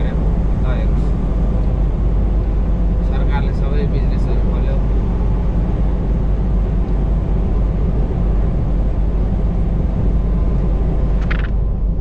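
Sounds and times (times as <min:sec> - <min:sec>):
road noise: 0:00.0 - 0:12.0
truck diesel engine rumble: 0:00.0 - 0:12.0.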